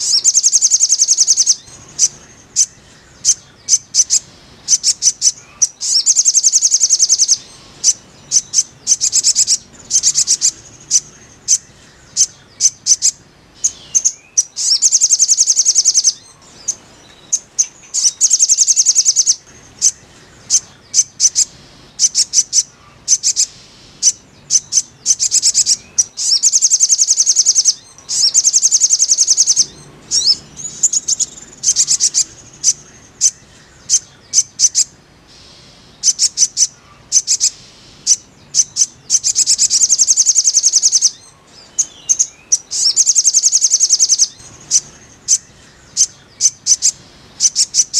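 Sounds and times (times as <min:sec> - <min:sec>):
bird chirps: 0:00.0 - 0:47.9
bird trilling: 0:00.0 - 0:47.9.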